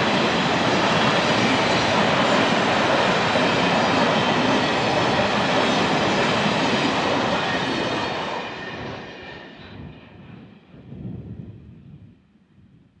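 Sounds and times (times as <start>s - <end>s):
freight train wheels rumbling: 0.0s - 12.1s.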